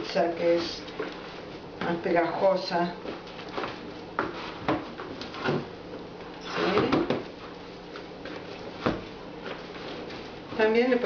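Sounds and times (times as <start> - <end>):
dough kneading squishes: 0.0 - 11.0.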